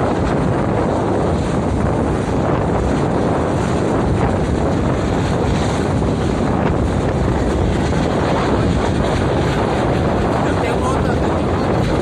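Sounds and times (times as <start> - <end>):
downwash buffeting microphone: 0.0 - 12.0
helicopter rotor and engine: 0.0 - 12.0.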